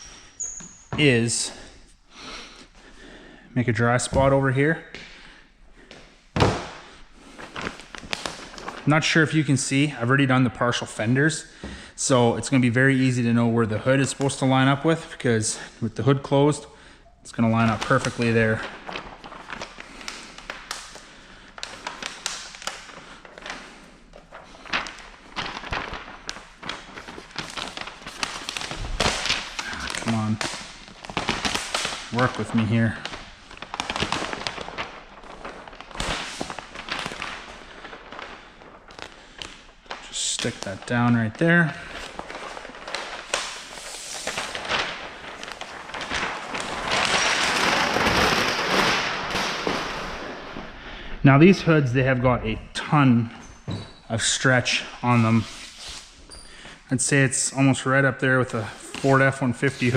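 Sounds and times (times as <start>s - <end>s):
plastic film crackling: 6.4s - 16.7s, 17.3s - 50.8s, 54.0s - 59.9s.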